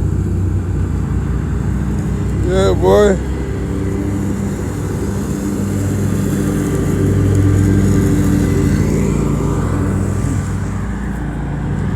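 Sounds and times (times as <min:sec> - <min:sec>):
lawn mower engine running: 0:00.0 - 0:11.9.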